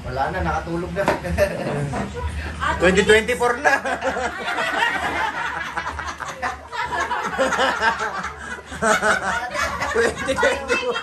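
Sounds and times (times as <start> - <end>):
people laughing: 1.3 - 11.0.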